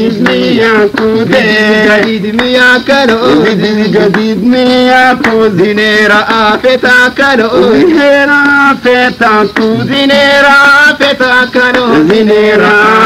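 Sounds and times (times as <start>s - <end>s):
music: 0.0s - 13.0s
voices singing sliding melody: 0.0s - 13.0s.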